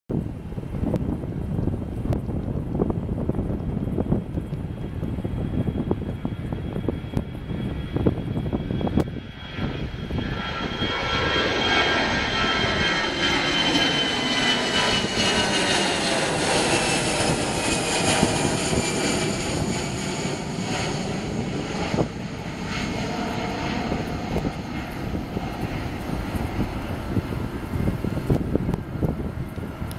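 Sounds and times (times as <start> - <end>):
jet engines with fan whine: 0.1 - 29.9.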